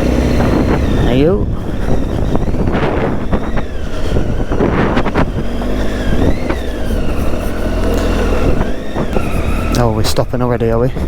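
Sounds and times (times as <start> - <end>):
wind on microphone: 0.0 - 10.2
motorcycle engine revving: 0.0 - 11.0.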